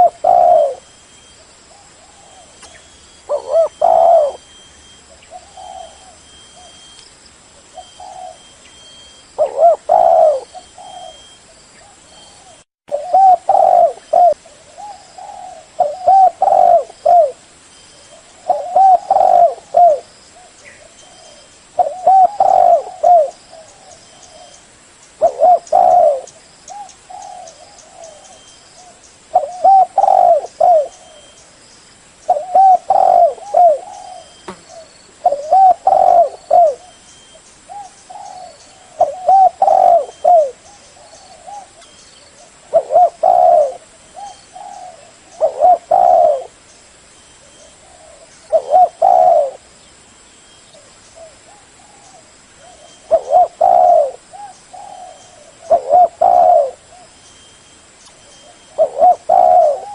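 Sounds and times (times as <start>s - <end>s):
dove cooing: 0.0s - 1.0s, 1.7s - 6.9s, 7.6s - 17.4s, 18.0s - 24.6s, 25.2s - 31.4s, 32.3s - 46.6s, 47.4s - 49.7s, 50.8s - 57.2s, 58.2s - 59.9s.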